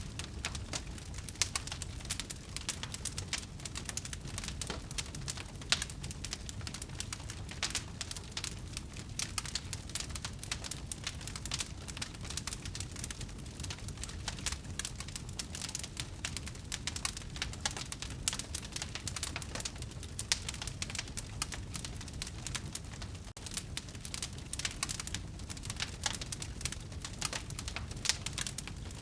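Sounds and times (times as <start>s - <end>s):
low rumble of flames: 0.0s - 29.0s
wood fire crackling: 0.0s - 29.0s
loud pops from fire: 0.1s - 29.0s.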